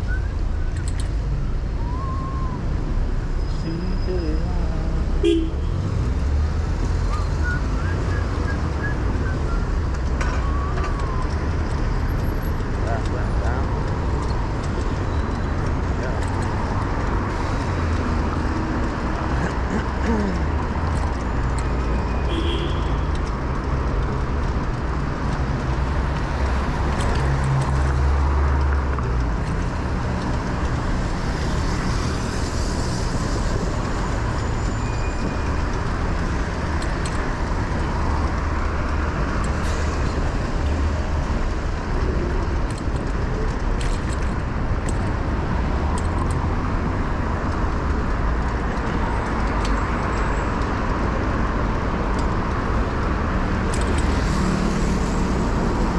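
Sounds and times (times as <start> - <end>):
vehicles passing: 0.0 - 55.9.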